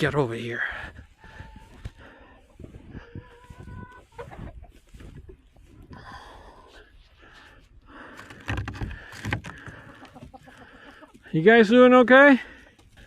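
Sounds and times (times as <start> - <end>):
chickens clucking: 0.0 - 8.2, 8.9 - 13.0.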